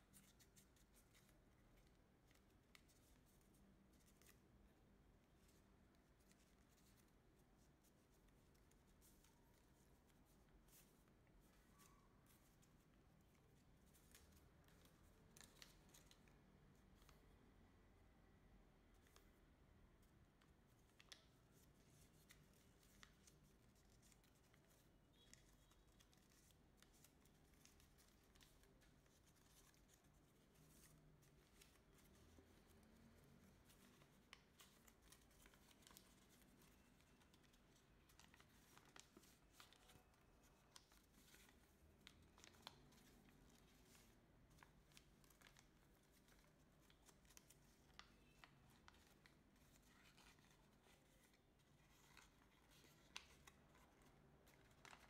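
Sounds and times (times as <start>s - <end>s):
paper crinkling and rustling: 5.2s - 17.3s, 20.0s - 55.0s.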